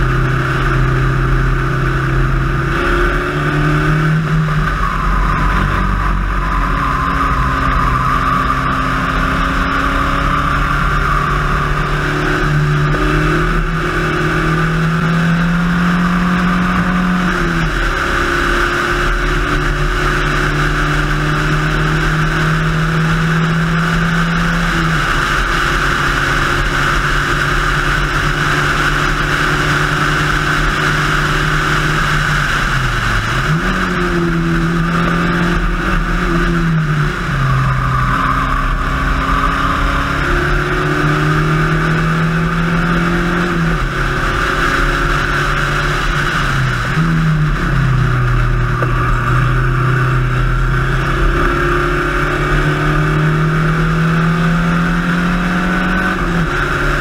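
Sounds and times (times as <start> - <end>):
race car engine running hard: 0.0 - 57.0
wind and road noise: 0.0 - 57.0.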